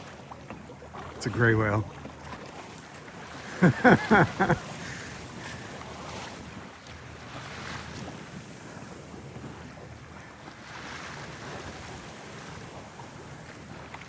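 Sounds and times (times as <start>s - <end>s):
wind and water rushing: 0.0s - 14.0s.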